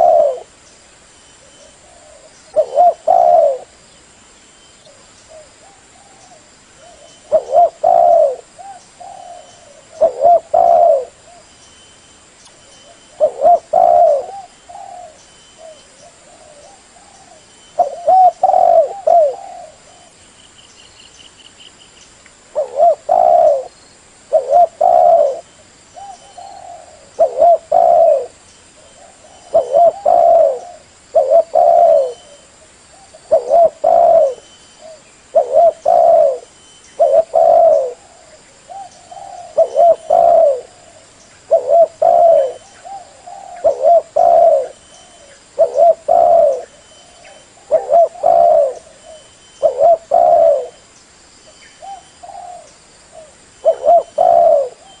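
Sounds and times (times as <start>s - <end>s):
dove cooing: 0.0s - 0.6s, 1.4s - 3.8s, 4.8s - 11.5s, 12.8s - 20.2s, 22.5s - 50.8s, 51.8s - 55.0s.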